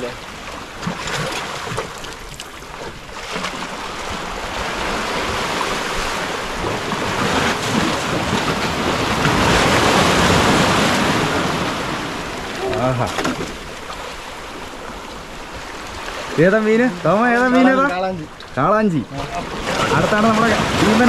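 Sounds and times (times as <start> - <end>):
sea surf washing against rocks: 0.0 - 21.0.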